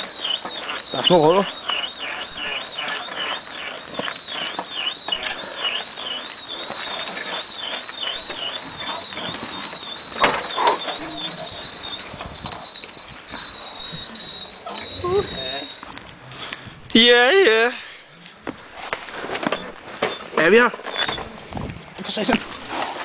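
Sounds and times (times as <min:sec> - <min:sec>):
go-kart squeaking: 0:00.0 - 0:23.0.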